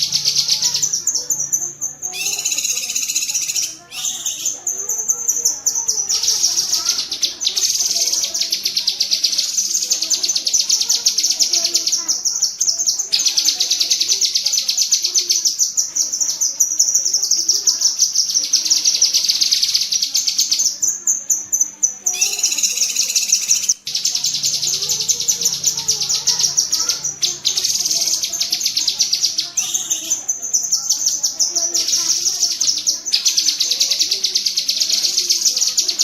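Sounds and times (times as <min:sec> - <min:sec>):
bird rapid rattling chatter: 0:00.0 - 0:36.0.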